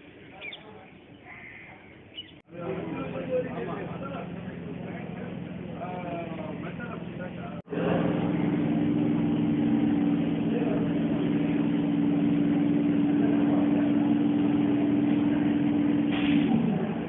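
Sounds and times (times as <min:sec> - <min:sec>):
electric train low drone: 0:02.5 - 0:17.0.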